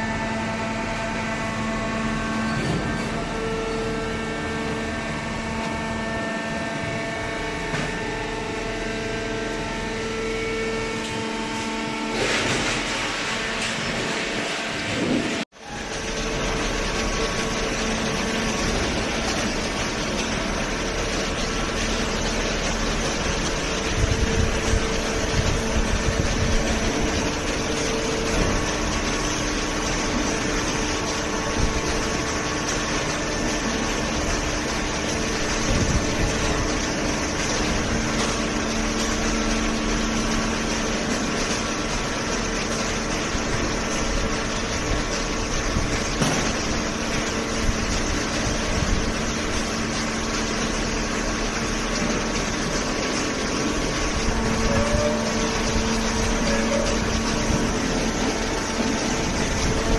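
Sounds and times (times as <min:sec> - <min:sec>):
electric motor and hydraulic pump humming: 0:00.0 - 0:59.9.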